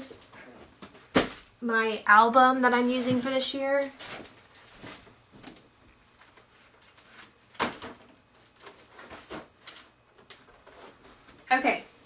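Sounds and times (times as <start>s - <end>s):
objects rustling and knocking: 0.0s - 1.6s, 2.9s - 11.5s.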